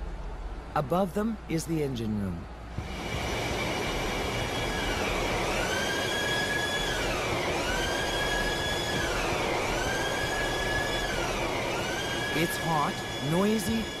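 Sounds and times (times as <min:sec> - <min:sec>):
engine room machinery din: 0:02.5 - 0:14.0.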